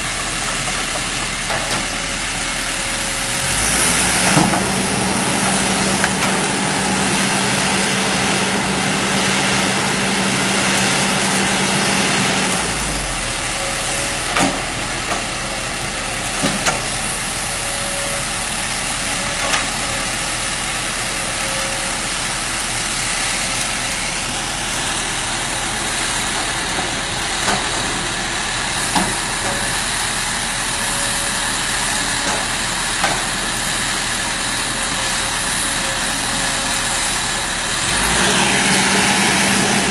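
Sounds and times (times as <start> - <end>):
excavator engine rumbling: 0.0 - 39.9.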